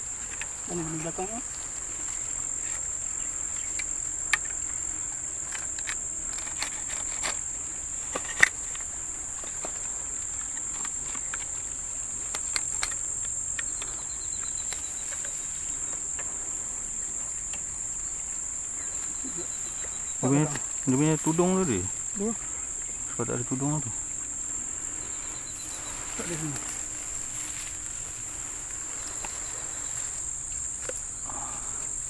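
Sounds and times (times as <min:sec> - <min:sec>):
crickets chirping chorus: 0:00.0 - 0:32.0.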